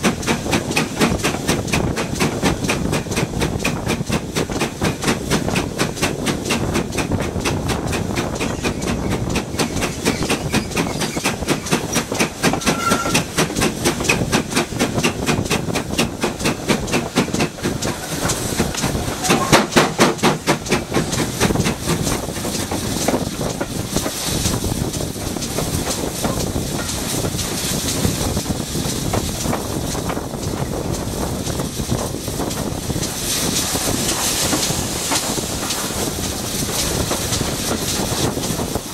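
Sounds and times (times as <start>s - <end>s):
locomotive rumble and hiss: 0.0s - 38.9s
steam locomotive beat: 0.0s - 38.9s.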